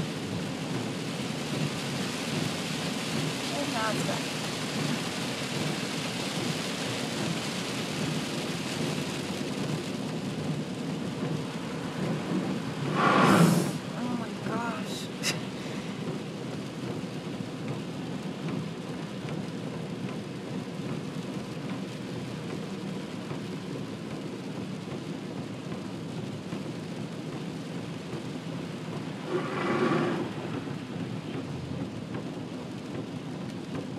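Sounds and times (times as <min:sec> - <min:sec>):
heavy rain on car roof: 0:00.0 - 0:33.9.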